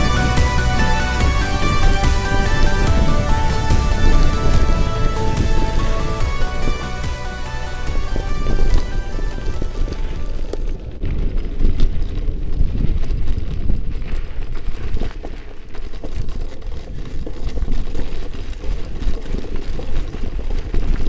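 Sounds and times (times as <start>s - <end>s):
bike rattling and knocking: 0.0s - 21.0s
wind buffeting microphone: 0.0s - 21.0s.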